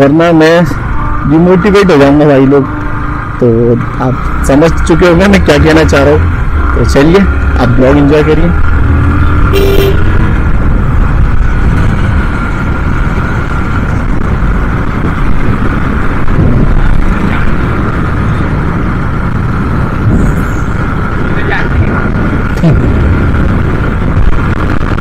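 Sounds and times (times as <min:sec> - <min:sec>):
wind rushing over microphone: 0:00.0 - 0:25.0
motorcycle engine running: 0:00.7 - 0:25.0.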